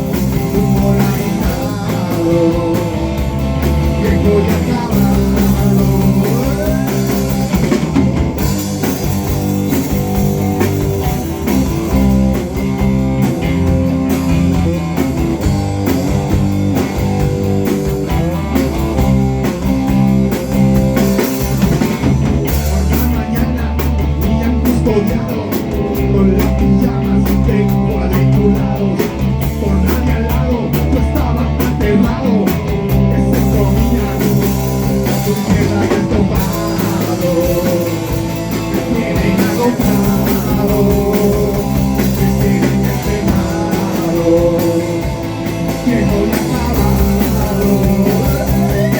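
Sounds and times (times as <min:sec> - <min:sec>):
drum kit beat: 0:00.0 - 0:48.9
guitar: 0:00.0 - 0:48.9
rock band playing: 0:00.0 - 0:48.9.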